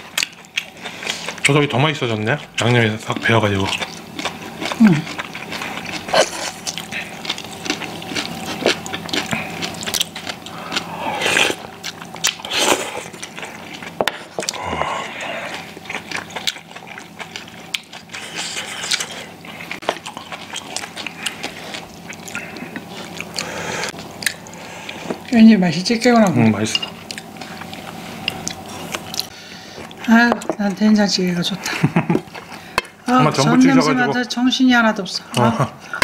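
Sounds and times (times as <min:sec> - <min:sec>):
people chewing and smacking: 0:00.0 - 0:25.4, 0:26.0 - 0:33.9.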